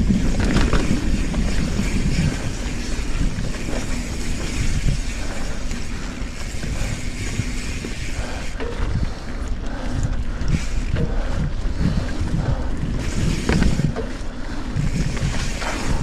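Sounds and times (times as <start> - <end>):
bike rattling and knocking: 0.0 - 16.0
bike tyres rolling: 0.0 - 16.0
wind on microphone: 0.0 - 16.0.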